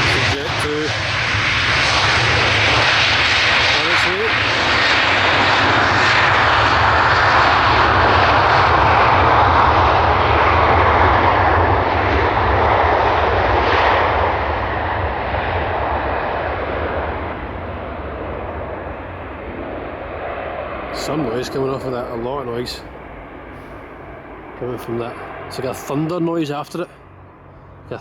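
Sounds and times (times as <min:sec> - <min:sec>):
airliner engines taking off: 0:00.0 - 0:28.0.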